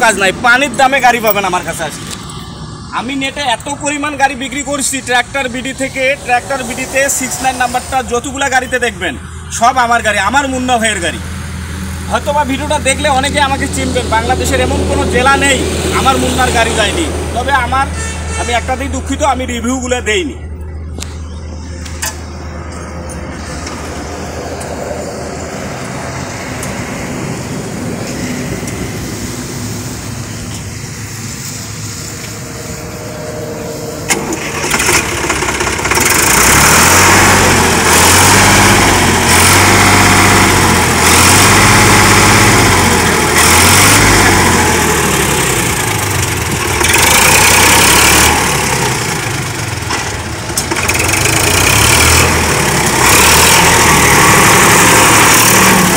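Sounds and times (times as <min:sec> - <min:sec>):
tractor engine revving: 0:00.0 - 0:55.9.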